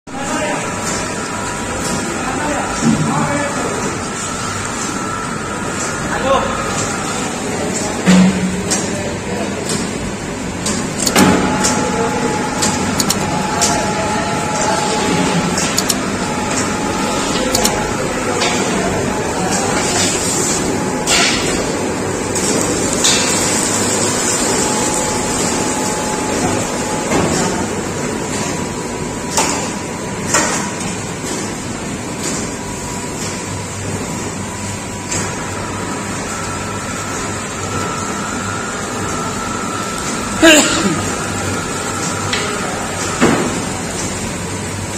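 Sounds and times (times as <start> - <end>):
factory machinery hum and hiss: 0.1 - 44.9.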